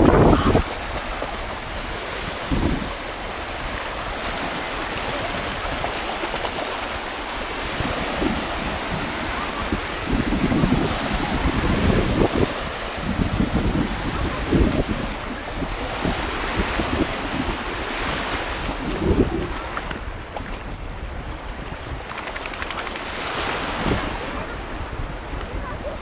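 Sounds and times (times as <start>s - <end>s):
small waves washing in shallows: 0.0s - 26.0s
wind rumbling on microphone: 0.0s - 26.0s.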